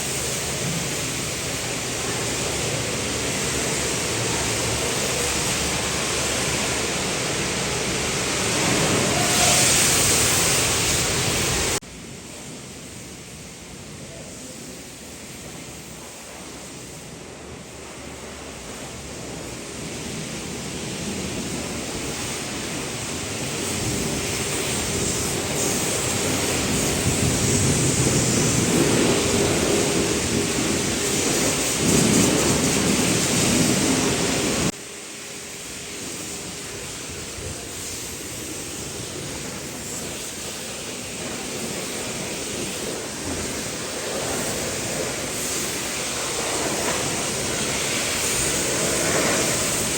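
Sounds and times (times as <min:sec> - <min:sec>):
water spraying onto vehicle: 0:00.0 - 0:49.9.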